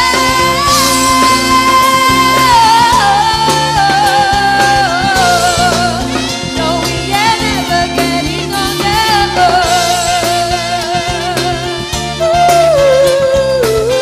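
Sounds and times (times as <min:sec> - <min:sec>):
live band playing pop song: 0:00.0 - 0:14.0.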